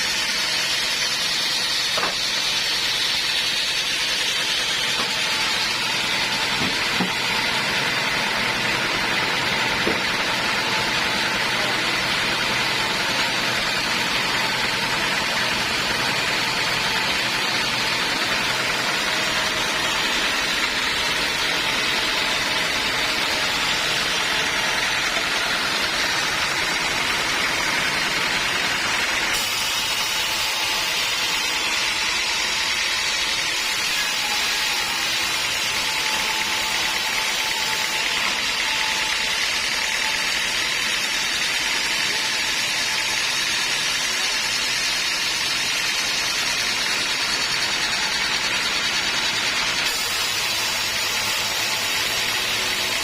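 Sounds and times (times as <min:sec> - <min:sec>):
band sawmill sawing log: 0:00.0 - 0:53.0.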